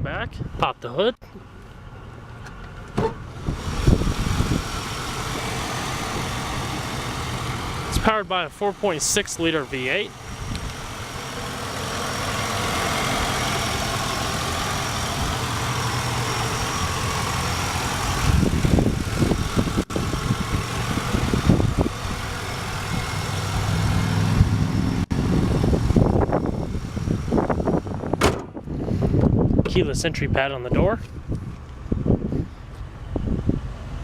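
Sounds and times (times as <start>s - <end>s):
car engine idling: 1.3s - 34.0s.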